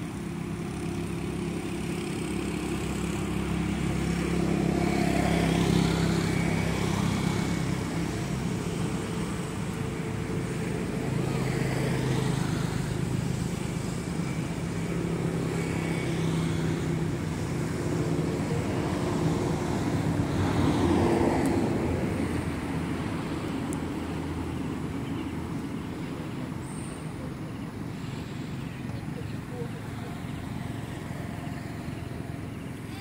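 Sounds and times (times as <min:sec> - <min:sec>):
vehicle engine passing by: 0:00.0 - 0:33.0.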